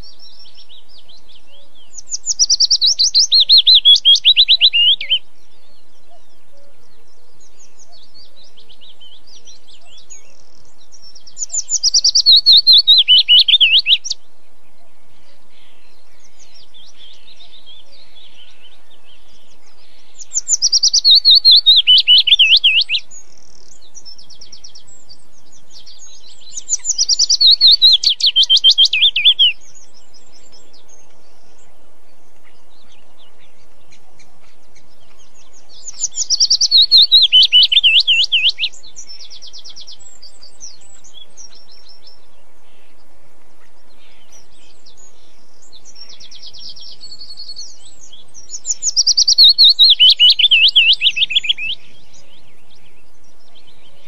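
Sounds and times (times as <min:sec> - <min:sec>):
bird singing falling phrase: 0:00.0 - 0:54.0
faint bird chirps: 0:00.0 - 0:54.0.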